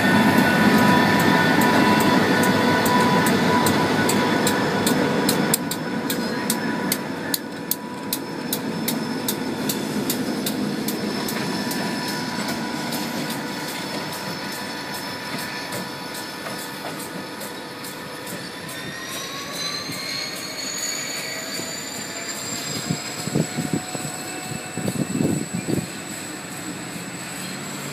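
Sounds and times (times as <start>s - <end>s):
crossing warning bell ringing: 0.0s - 27.9s
diesel locomotives rumbling past: 0.0s - 27.9s.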